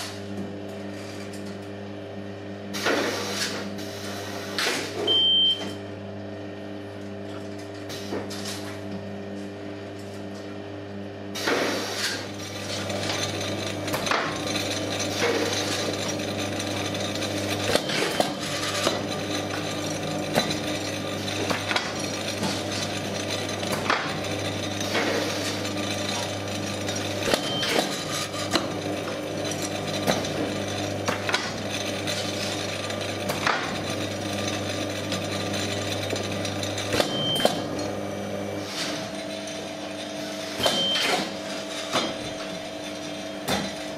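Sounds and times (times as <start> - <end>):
taping machine motor hum: 0.0 - 43.9.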